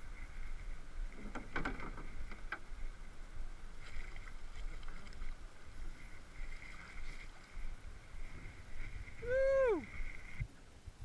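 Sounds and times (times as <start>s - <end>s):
wind rumble on microphone: 0.0s - 11.0s
water lapping against boat hull: 0.5s - 10.5s.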